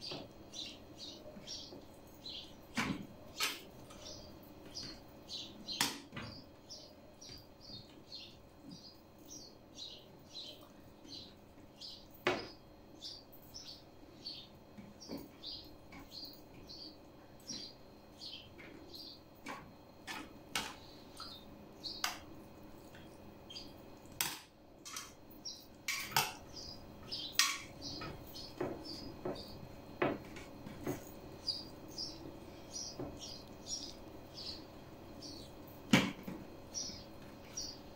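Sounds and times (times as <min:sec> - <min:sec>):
small bird chirping: 0:00.0 - 0:02.6, 0:03.3 - 0:20.2, 0:20.8 - 0:22.2, 0:22.9 - 0:23.8, 0:25.4 - 0:29.9, 0:31.4 - 0:35.6, 0:36.7 - 0:37.9.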